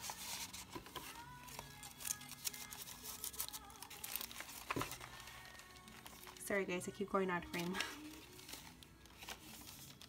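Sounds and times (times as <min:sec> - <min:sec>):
paper and card rustling: 0:00.0 - 0:06.6, 0:07.4 - 0:10.0
soft music from vinyl record: 0:00.0 - 0:10.0.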